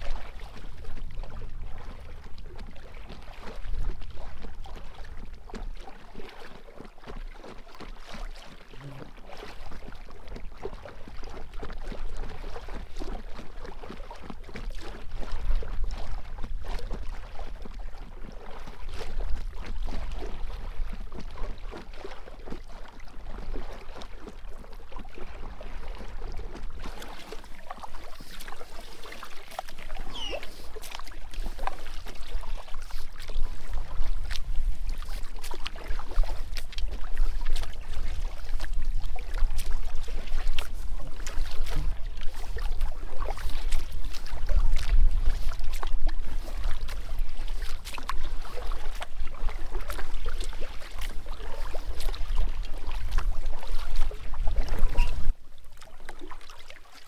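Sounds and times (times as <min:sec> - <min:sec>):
paddle splashing water: 0:00.0 - 0:57.0.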